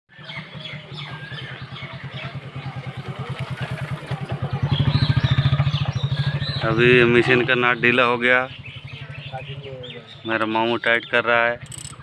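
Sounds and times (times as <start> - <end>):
diesel engine chugging: 0.1 - 12.0.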